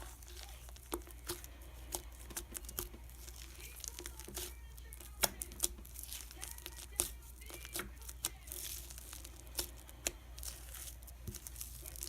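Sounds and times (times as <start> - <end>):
low background hum: 0.0 - 12.0
slime sticky clicks and crackles: 0.3 - 12.0.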